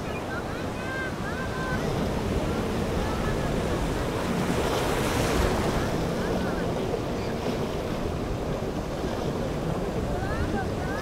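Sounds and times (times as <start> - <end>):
waves washing and slapping: 0.0 - 11.0
wind buffeting microphone: 0.0 - 11.0.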